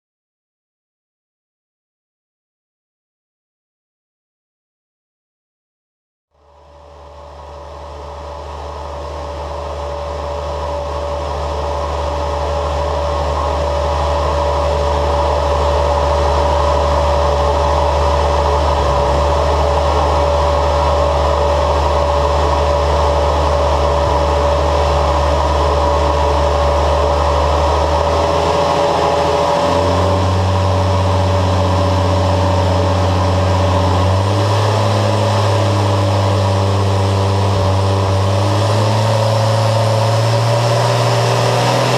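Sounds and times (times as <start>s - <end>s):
aircraft engine running: 6.5s - 41.9s.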